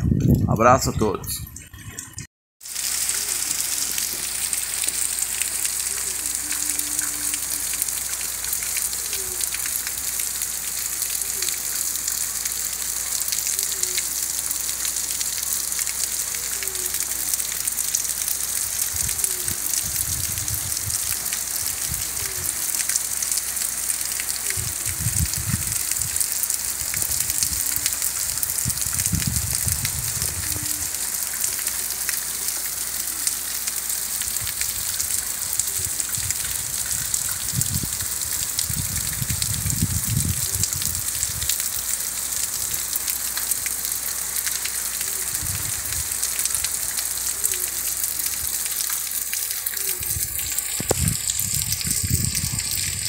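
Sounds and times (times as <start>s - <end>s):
steady rain on pavement and roofs: 2.6s - 53.0s.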